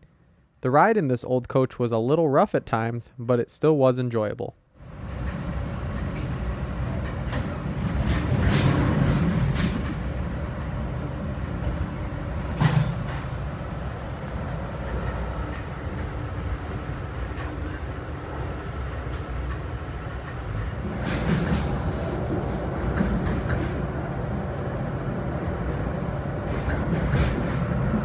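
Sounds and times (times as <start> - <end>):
train wheels rumbling on rail: 4.8 - 28.0.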